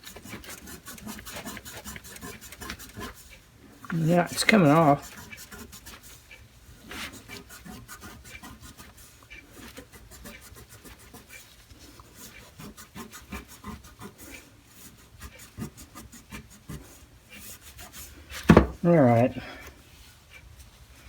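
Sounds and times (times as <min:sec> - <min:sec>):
hand scrubbing metal tray: 0:00.0 - 0:11.5, 0:12.1 - 0:19.4.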